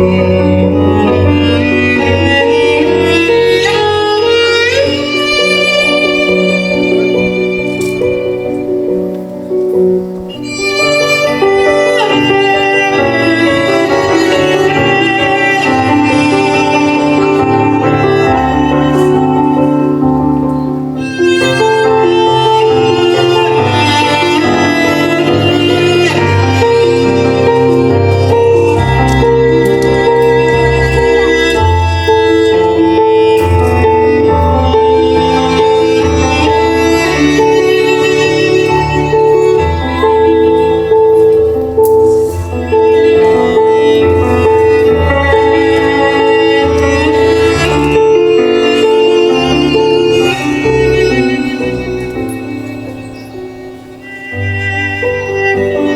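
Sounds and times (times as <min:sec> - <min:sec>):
bowed cello: 0:00.0 - 0:55.9.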